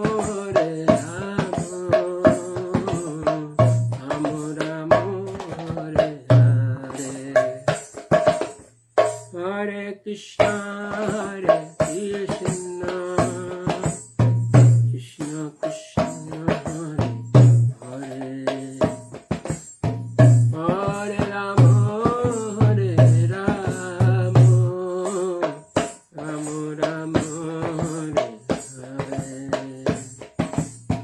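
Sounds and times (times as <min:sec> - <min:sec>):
drums: 0:00.0 - 0:09.4, 0:10.4 - 0:31.0
jingling percussion: 0:00.0 - 0:31.0.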